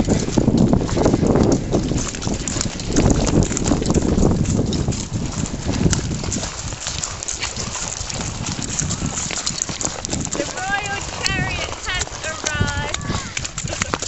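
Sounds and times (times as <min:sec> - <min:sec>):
hooves on shingle: 0:00.0 - 0:14.0
wheels crunching over shingle: 0:00.0 - 0:14.0.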